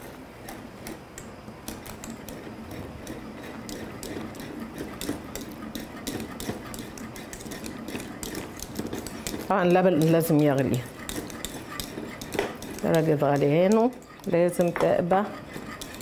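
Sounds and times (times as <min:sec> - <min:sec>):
whisk clicking against metal pot: 0:00.4 - 0:16.0.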